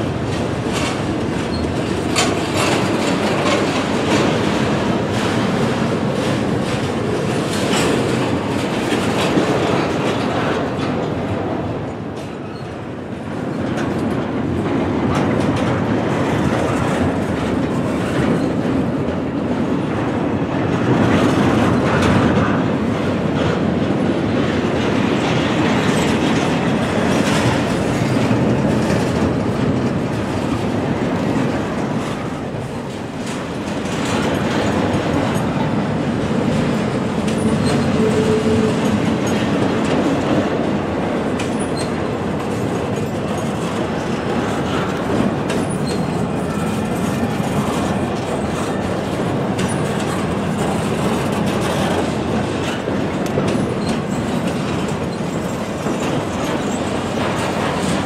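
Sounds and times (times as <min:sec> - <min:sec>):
freight train rolling past: 0:00.0 - 0:58.0
wheels clacking over rail joints: 0:00.0 - 0:58.0.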